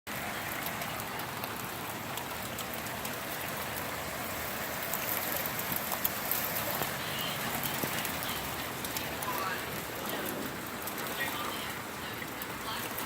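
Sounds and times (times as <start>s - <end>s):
rain pattering on surfaces: 0.1s - 13.0s.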